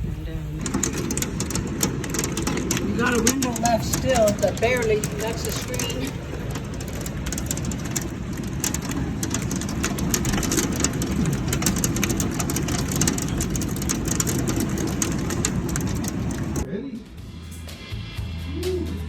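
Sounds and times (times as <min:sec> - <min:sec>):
heavy rain pouring: 0:00.0 - 0:16.7.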